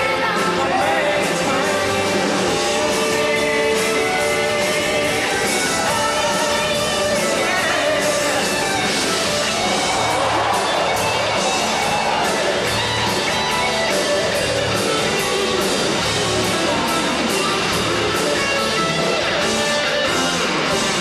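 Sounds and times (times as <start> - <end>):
drum kit beat: 0.0 - 21.0
electric guitar: 0.0 - 21.0.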